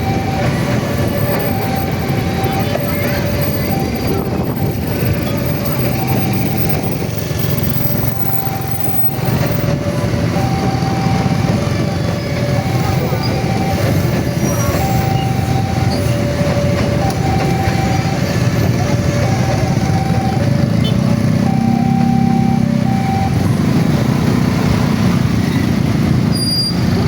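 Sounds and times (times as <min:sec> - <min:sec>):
level crossing alarm: 0:00.0 - 0:25.1
road traffic rumble: 0:00.0 - 0:27.0.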